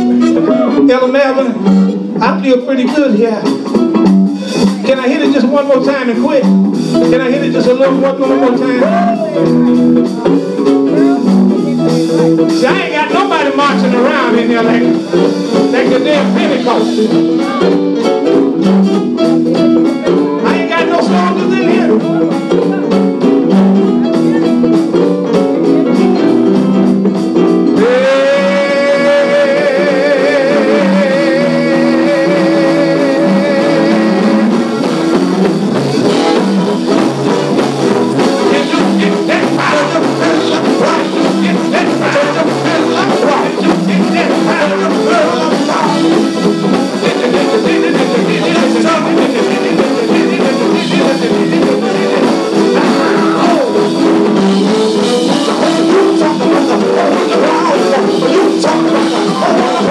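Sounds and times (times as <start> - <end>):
person singing: 0.0 - 3.3, 4.4 - 26.5, 27.5 - 59.9
live gospel band playing: 0.0 - 59.9.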